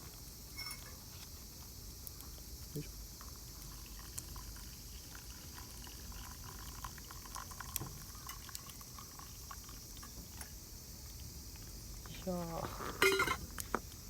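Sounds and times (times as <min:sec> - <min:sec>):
insects chirring: 0:00.0 - 0:14.0
hot liquid pouring: 0:00.4 - 0:01.1, 0:02.8 - 0:14.0.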